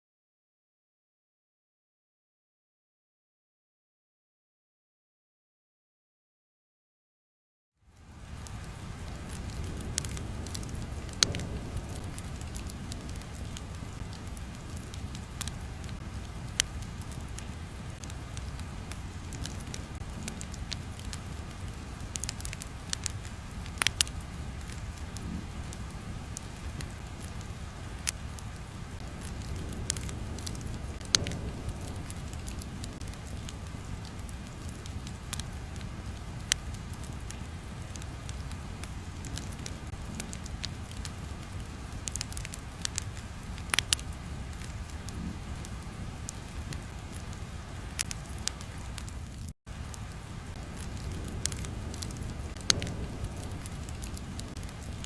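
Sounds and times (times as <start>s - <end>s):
fire crackling and popping: 7.9s - 55.0s.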